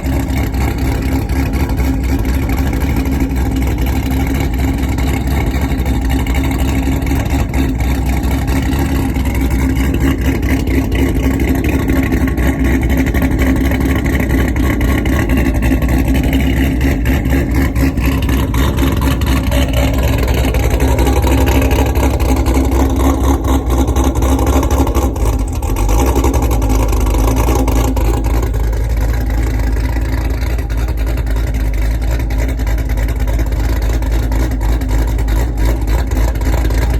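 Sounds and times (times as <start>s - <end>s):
car engine idling with lope: 0.0s - 36.9s.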